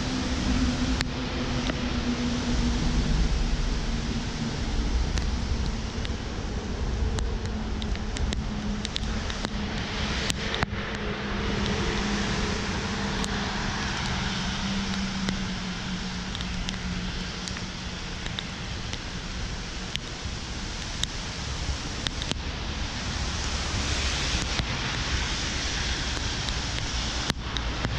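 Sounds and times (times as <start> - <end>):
rain: 0.0 - 27.9
traffic engine hum: 0.0 - 27.9
tyres hissing on wet road: 0.0 - 27.9
wind: 0.0 - 27.9
raindrops ticking on camera: 0.3 - 27.9.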